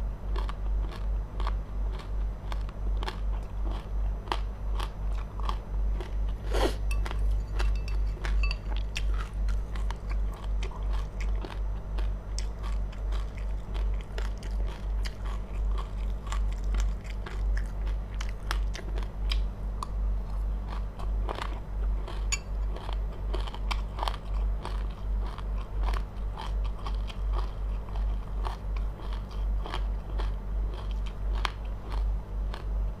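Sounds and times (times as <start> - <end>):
person chewing crunchy seeds: 0.2 - 33.0.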